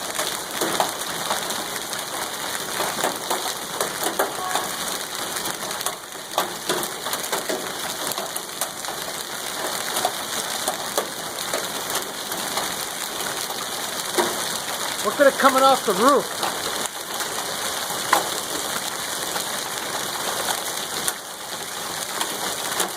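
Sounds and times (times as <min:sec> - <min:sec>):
hail hissing down: 0:00.0 - 0:22.9
hailstones clicking and knocking: 0:00.0 - 0:22.9.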